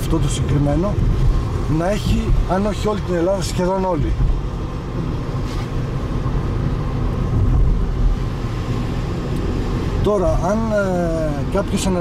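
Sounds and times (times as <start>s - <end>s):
low engine hum: 0.0s - 12.0s
road rumble: 0.0s - 12.0s.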